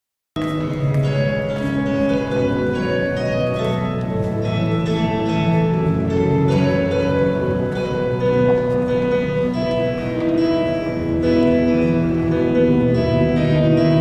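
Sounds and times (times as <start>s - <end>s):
plucked string melody: 0.4s - 14.0s
sustained chords: 0.4s - 14.0s.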